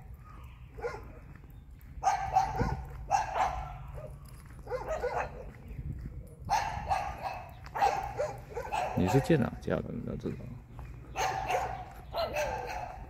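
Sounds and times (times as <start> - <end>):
dogs barking: 0.0 - 5.7, 6.4 - 13.0.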